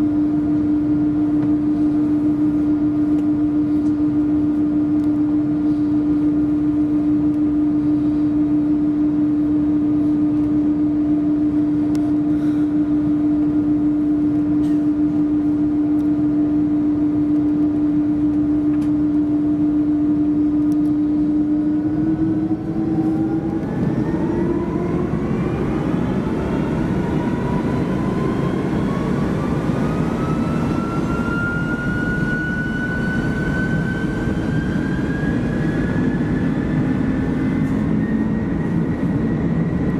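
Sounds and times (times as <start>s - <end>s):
jet engines humming in cabin: 0.0s - 39.9s
jet engines spooling up: 0.0s - 39.9s.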